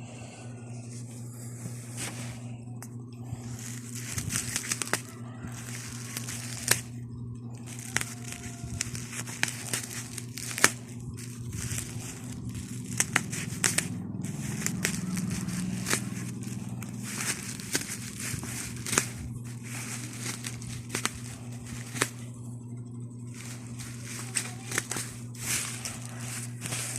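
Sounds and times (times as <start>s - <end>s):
low hum: 0.0s - 26.9s
plastic packaging crinkling: 3.2s - 26.9s
plastic tearing: 3.3s - 7.0s, 7.6s - 22.4s, 23.2s - 26.9s.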